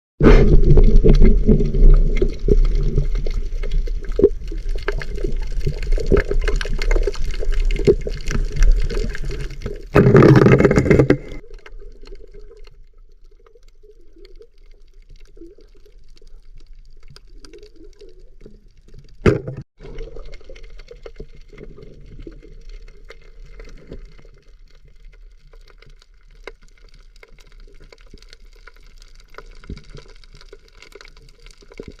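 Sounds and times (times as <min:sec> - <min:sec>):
water sloshing and gurgling: 0:00.2 - 0:32.0.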